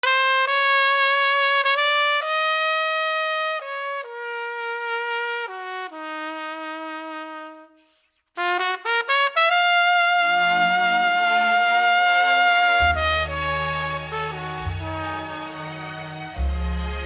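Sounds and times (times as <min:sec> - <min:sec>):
trumpet playing slow phrase: 0:00.0 - 0:07.8, 0:08.4 - 0:17.0.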